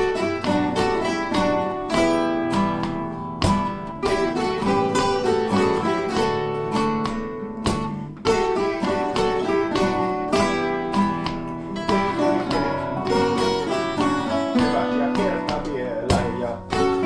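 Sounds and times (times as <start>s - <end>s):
plucked string instruments: 0.0s - 17.0s.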